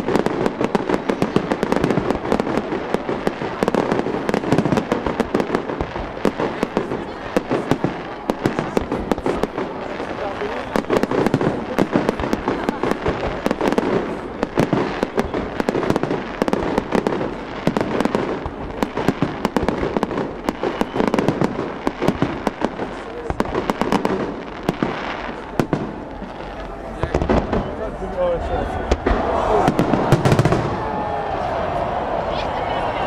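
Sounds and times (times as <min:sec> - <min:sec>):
fireworks bursting: 0:00.0 - 0:33.0
fireworks crackles and bangs: 0:00.0 - 0:33.0.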